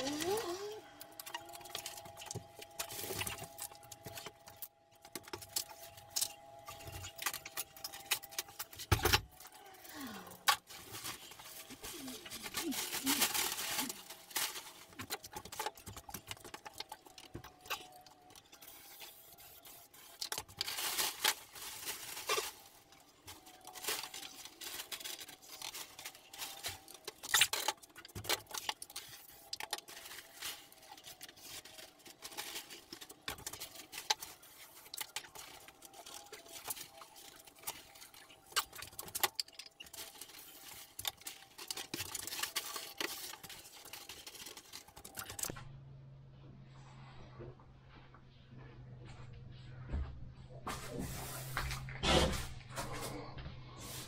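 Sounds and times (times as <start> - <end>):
scraping and tearing plasterboard: 0.0 - 45.5.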